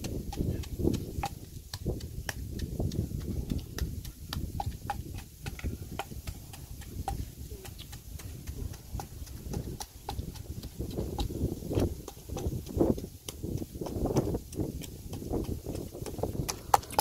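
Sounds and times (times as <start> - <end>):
pestle knocking in a clay mortar: 0.0 - 17.0
wind rumble on microphone: 0.0 - 17.0.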